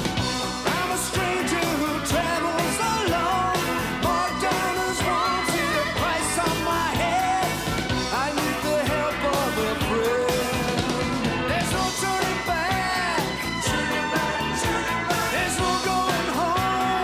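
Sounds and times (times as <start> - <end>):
pop-rock band playing: 0.0 - 17.0
steady drum beat: 0.0 - 17.0
person singing: 0.6 - 17.0.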